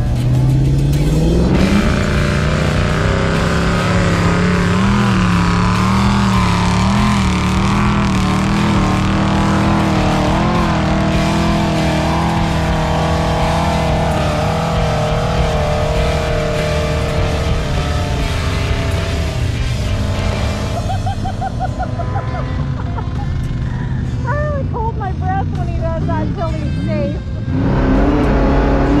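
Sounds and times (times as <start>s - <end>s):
engine running hard: 0.0s - 29.0s.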